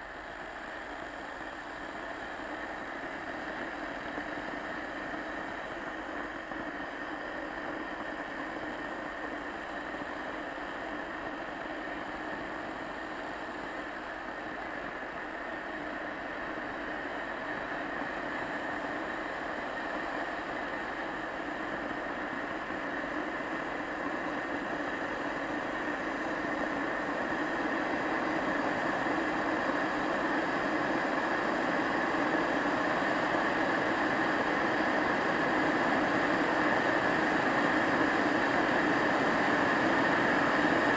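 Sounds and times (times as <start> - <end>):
kettle heating water: 0.0 - 40.9.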